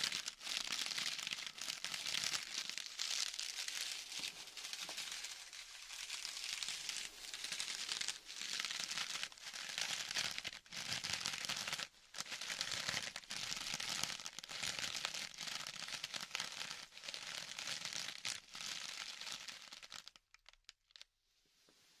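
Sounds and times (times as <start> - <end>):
material crinkling: 0.0 - 22.0.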